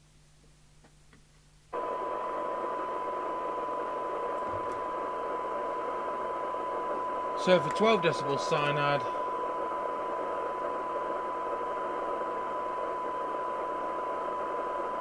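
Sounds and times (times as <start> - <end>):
radio hiss: 1.7 - 15.0
radio test tone: 1.8 - 15.0.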